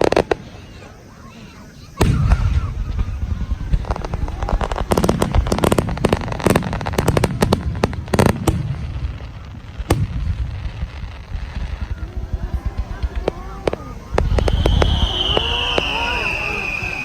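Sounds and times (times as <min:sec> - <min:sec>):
fireworks deep booms: 0:00.0 - 0:17.0
fireworks sharp bangs and crackling: 0:00.0 - 0:17.0.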